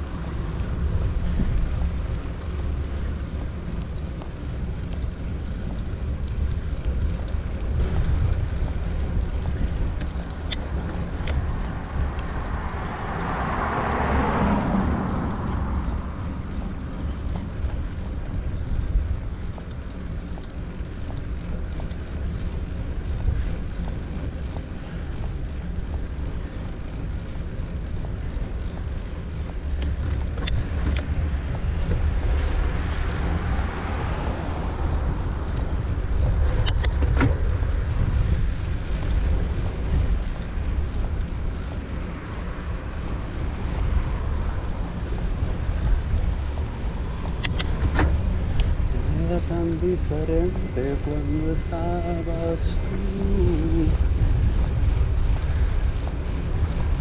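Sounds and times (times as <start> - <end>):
car passing: 0.0 - 57.0
wind rumbling on microphone: 0.0 - 57.0.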